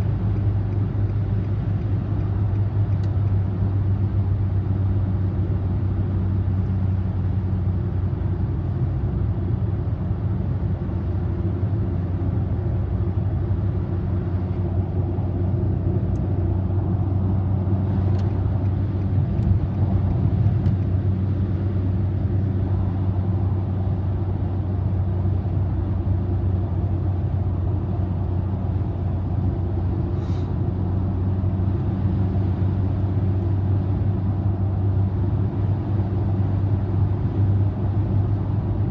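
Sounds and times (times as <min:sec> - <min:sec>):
car engine and road hum: 0:00.0 - 0:38.9.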